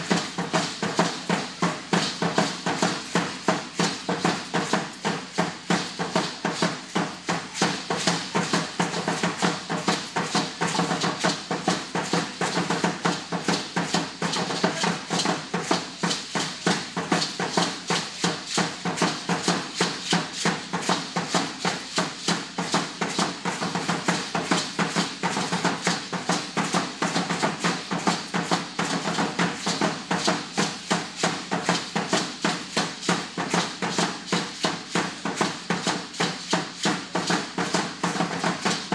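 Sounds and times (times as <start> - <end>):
ankle rattles shaking: 0.0 - 38.9
fast steady drumming: 0.0 - 38.9.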